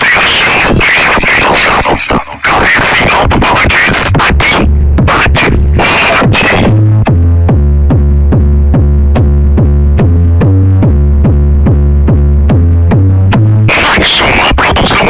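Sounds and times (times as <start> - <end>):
electronic music with deep bass: 0.0 - 15.0.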